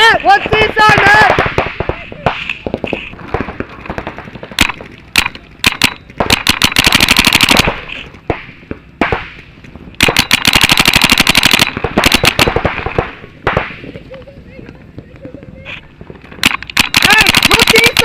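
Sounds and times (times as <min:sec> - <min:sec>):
paintball markers firing: 0:00.2 - 0:14.0, 0:16.3 - 0:18.0.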